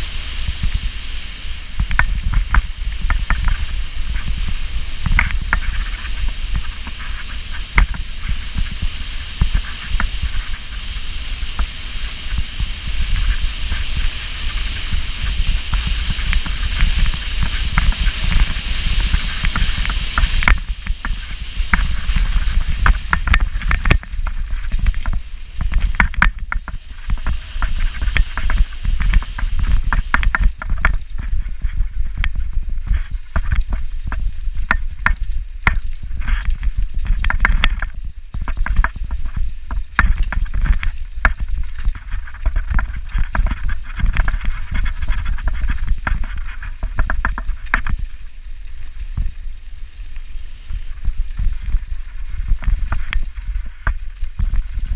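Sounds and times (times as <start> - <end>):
mountain bike rattling over trail: 0.0 - 54.9
wind buffeting microphone: 0.0 - 54.9.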